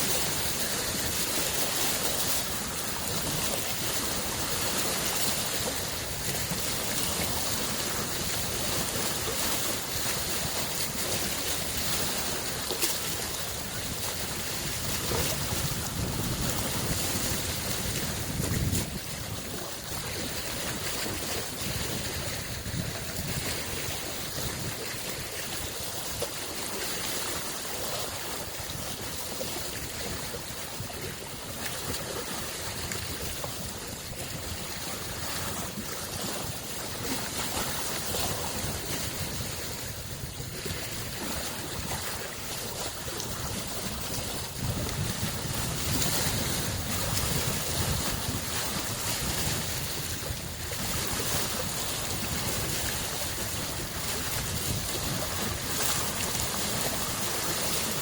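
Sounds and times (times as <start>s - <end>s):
lake waves washing on shore: 0.0s - 58.0s.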